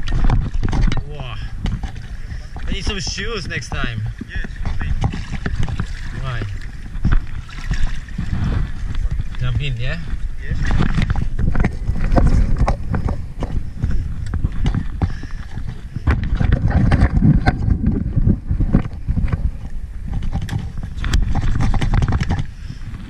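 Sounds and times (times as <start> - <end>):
thuds and knocks on hull: 0.0 - 22.5
water sloshing: 0.0 - 23.0.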